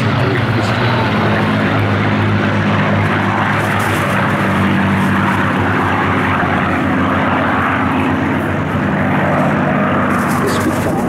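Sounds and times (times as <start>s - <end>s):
propeller planes droning overhead: 0.0s - 11.0s.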